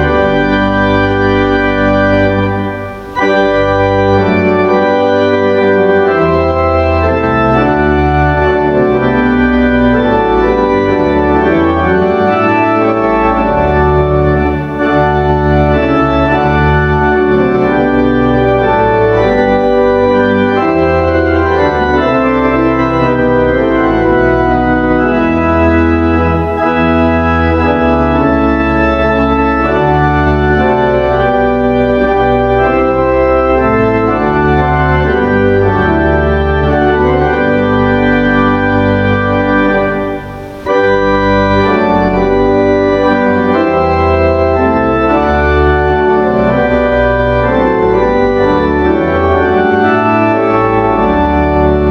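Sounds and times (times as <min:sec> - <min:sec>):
church organ chords: 0:00.0 - 0:51.9.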